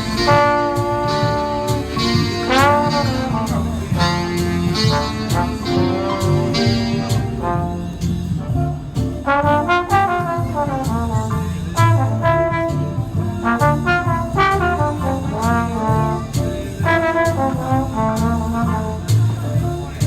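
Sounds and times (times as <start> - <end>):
brass instrument playing jazz: 0.0 - 20.0
low musical accompaniment: 0.0 - 20.0.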